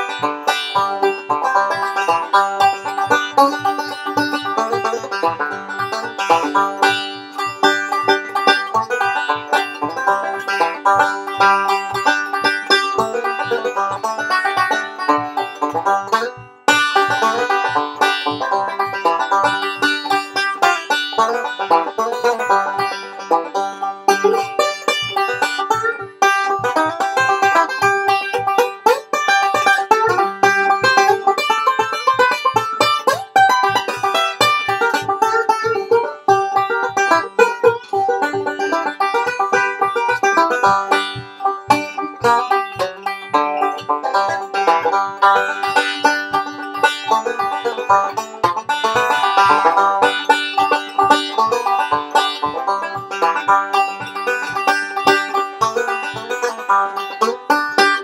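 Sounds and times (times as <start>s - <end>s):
banjo picked fast: 0.0s - 58.0s.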